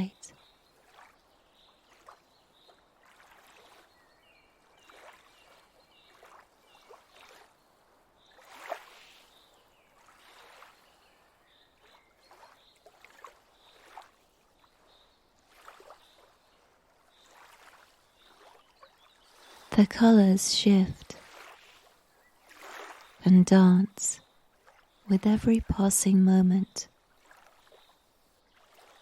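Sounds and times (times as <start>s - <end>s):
water lapping gently: 0.1s - 29.0s.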